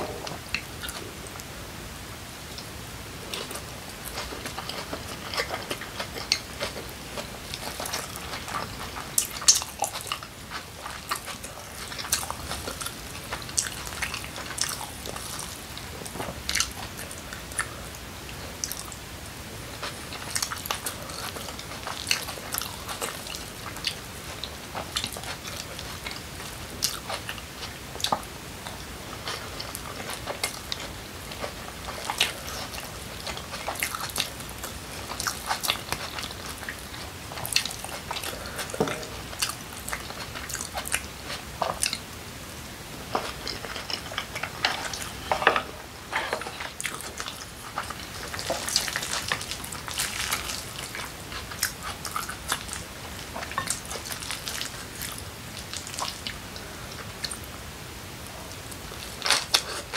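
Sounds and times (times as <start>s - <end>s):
wet chewing and biting: 3.3s - 19.1s, 19.8s - 42.1s, 43.0s - 57.5s.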